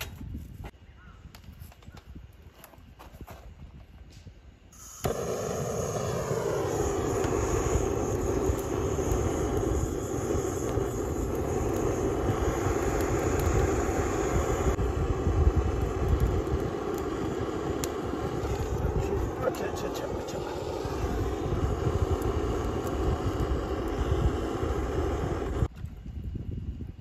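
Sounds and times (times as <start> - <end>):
gas torch flame burning: 3.6 - 27.0.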